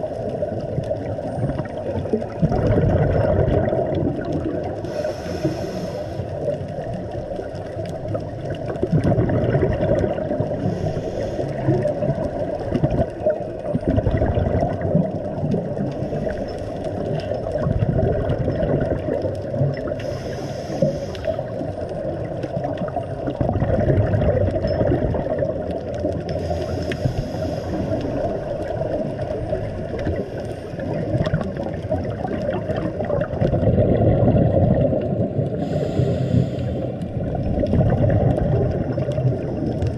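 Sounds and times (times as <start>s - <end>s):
muffled underwater rumble: 0.0s - 39.9s
regulator bubbles gurgling: 0.0s - 39.9s.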